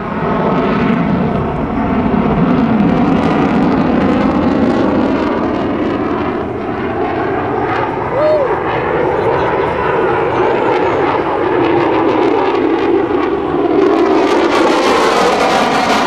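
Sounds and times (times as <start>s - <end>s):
jet engine flying past: 0.0s - 16.0s.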